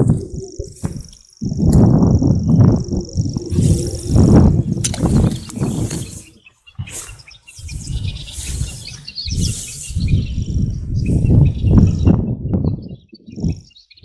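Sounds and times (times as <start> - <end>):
low rumbling: 0.0 - 12.3
small birds chirping: 0.0 - 14.0.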